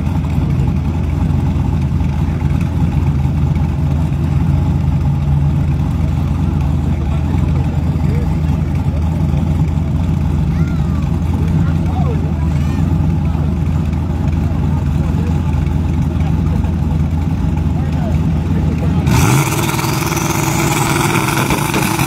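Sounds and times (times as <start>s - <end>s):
crowd chatter: 0.0s - 22.0s
race car engines idling: 0.0s - 22.0s.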